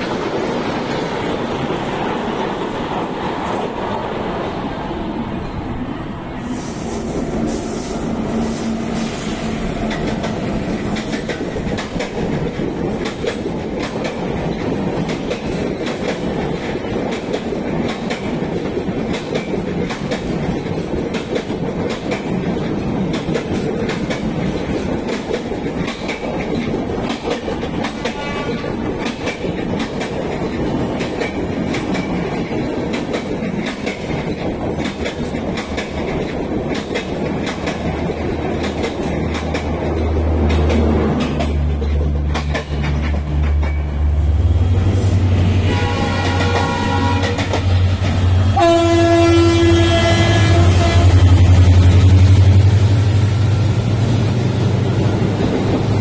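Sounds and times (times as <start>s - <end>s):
train rushing past: 0.0s - 56.0s.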